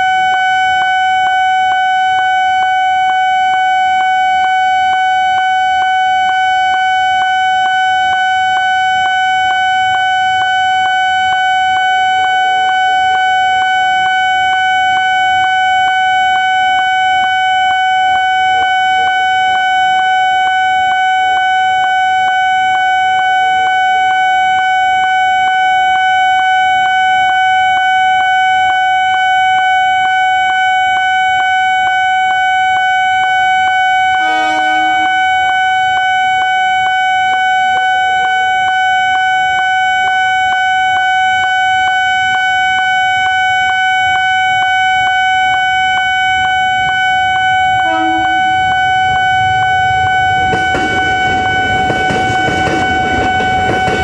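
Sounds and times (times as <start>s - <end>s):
level-crossing electronic bell alarm: 0.0s - 54.0s.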